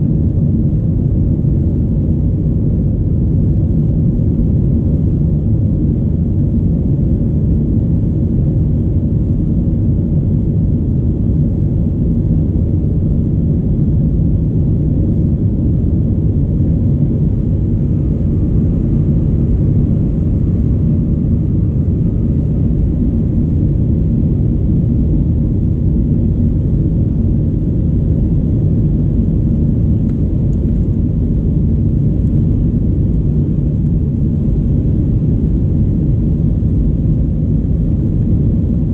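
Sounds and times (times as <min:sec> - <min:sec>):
jet engines and airflow in cabin: 0:00.0 - 0:38.9.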